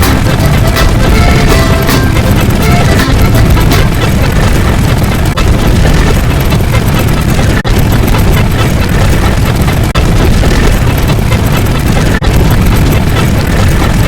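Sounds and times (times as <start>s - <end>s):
loud bassy rumbling: 0.0s - 14.0s.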